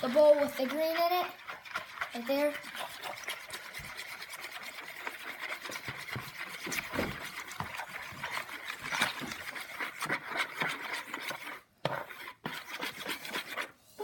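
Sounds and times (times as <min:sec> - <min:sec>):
utensil scraping inside bowl: 0:00.0 - 0:14.0.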